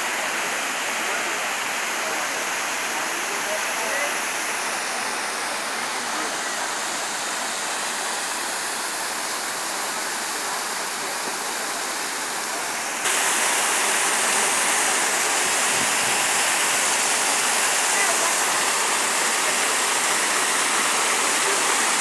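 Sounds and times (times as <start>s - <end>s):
waterfall rushing over boulders: 0.0s - 22.0s.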